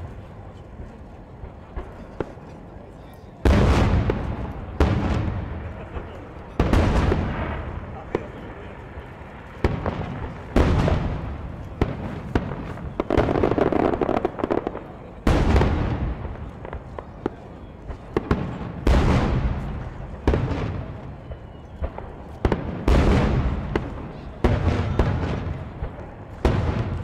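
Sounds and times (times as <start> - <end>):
firework shells booming: 3.4 - 8.8, 9.5 - 27.0
firework pops and crackle: 3.5 - 27.0.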